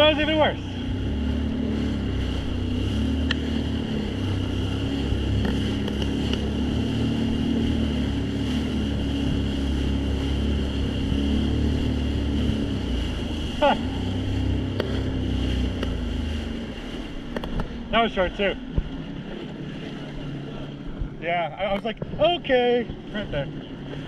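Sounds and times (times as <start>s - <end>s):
jet ski engine humming: 0.0s - 24.0s.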